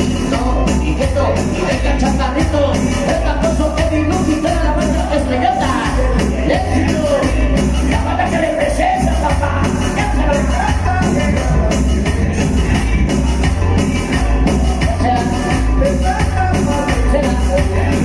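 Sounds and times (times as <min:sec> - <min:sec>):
dance music over sound system: 0:00.0 - 0:18.0
person singing: 0:00.0 - 0:18.0
repeating bass beat: 0:00.0 - 0:18.0.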